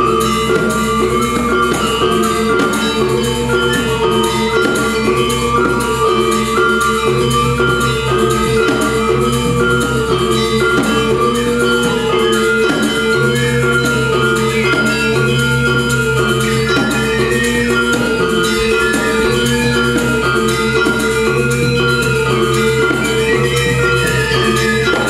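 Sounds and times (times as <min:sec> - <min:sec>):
bronze metallophones ringing: 0:00.0 - 0:25.0
drums: 0:00.0 - 0:25.0.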